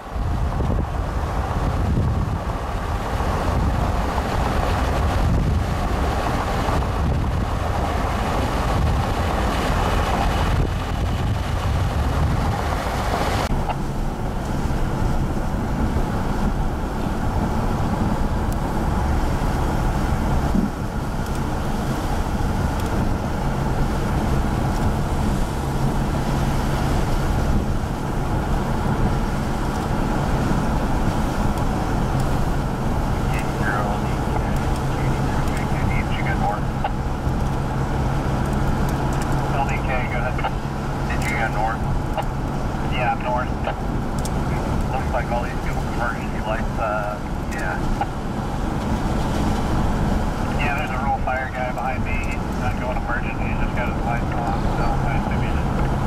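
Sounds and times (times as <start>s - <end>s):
road noise: 0.0s - 56.0s
vehicle engine hum inside cab: 0.0s - 56.0s
wind gusting over microphone: 0.0s - 56.0s.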